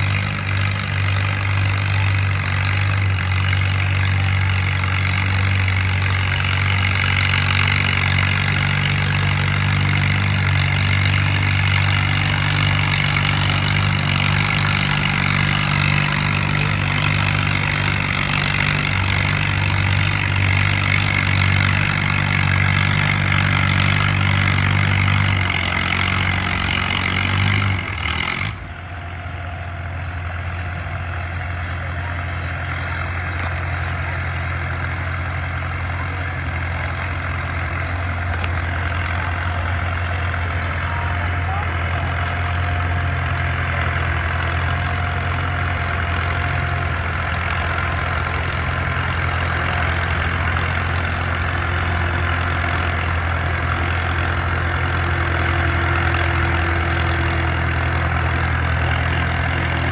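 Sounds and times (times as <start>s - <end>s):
tractor engine running hard: 0.0s - 59.9s.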